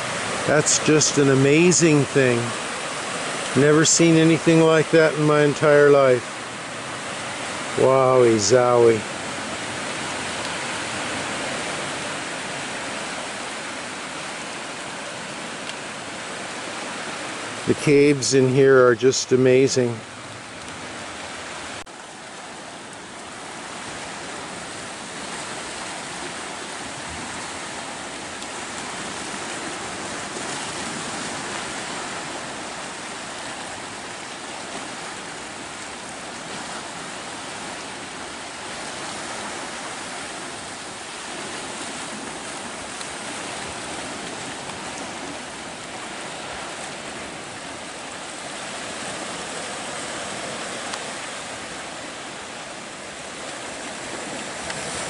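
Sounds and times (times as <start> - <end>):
sea water rushing over rocks: 0.0 - 55.0.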